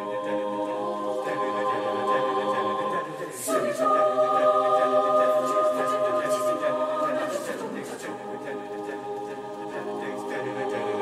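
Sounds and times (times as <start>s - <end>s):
choir singing: 0.0s - 11.0s.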